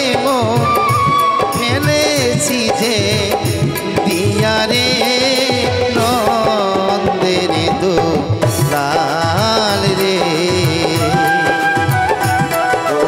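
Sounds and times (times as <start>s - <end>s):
hand drum: 0.0s - 13.0s
man singing into a microphone: 0.0s - 13.0s.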